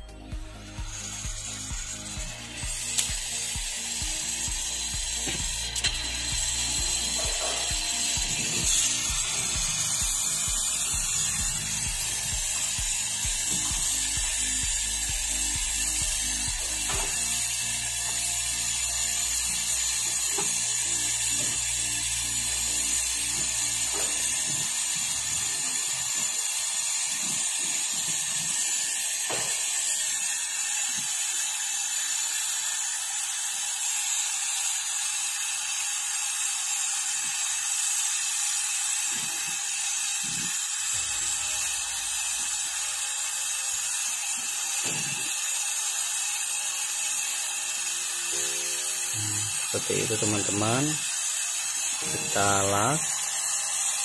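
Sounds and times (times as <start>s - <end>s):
torch flame hissing: 0.5s - 54.0s.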